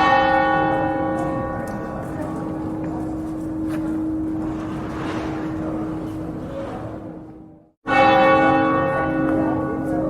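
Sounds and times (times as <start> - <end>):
church bell hum: 0.0 - 6.4, 7.8 - 10.0
town square background noise: 0.0 - 10.0.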